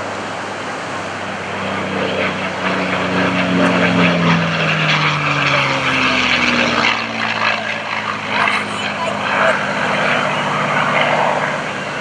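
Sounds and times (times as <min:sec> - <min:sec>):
propeller plane engine at high power: 0:00.0 - 0:12.0.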